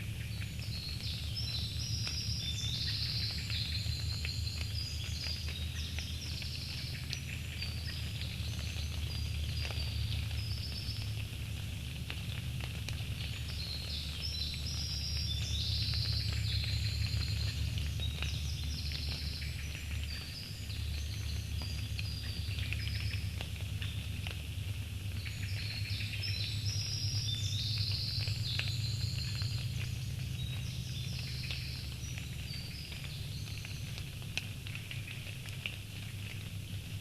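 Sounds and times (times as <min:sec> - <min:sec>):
small birds chirping: 0:00.0 - 0:36.5.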